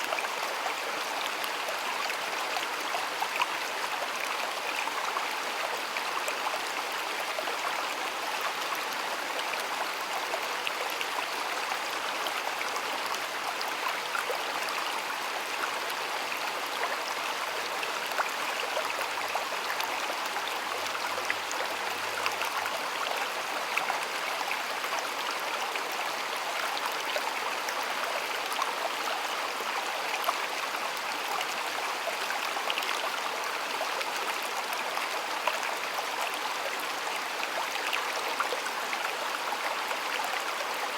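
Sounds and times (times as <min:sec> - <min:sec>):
stream of flowing water: 0:00.0 - 0:40.9.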